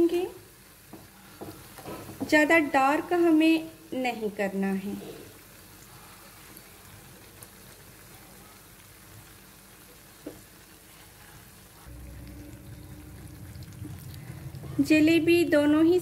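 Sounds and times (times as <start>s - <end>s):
deep-frying sizzle and bubbling: 0.0s - 16.0s.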